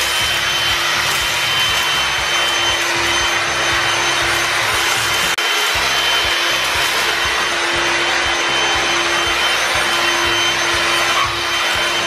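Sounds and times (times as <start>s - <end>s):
vacuum cleaner running: 0.0s - 12.0s
vacuum nozzle on floor tiles: 0.0s - 12.0s.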